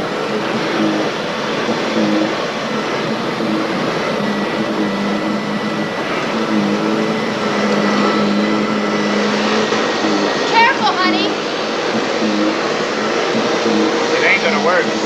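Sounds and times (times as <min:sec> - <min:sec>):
loud mechanical whirring: 0:00.0 - 0:15.0.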